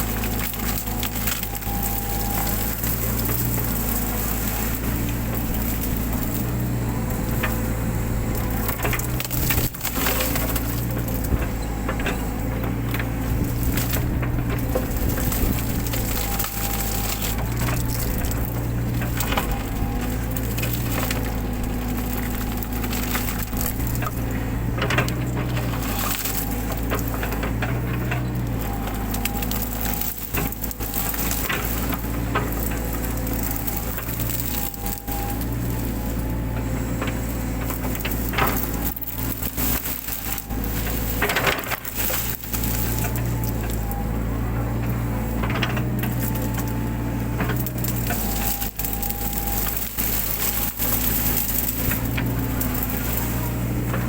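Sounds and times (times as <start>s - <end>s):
brush cracking and snapping: 0.0s - 54.0s
excavator diesel engine running: 0.0s - 54.0s.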